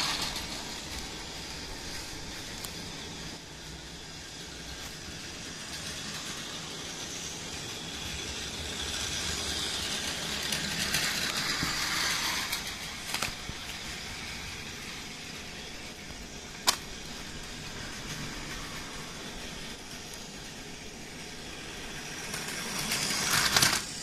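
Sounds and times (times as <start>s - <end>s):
toy train motor whirring: 0.0s - 24.0s
toy train wheels rattling: 0.0s - 24.0s.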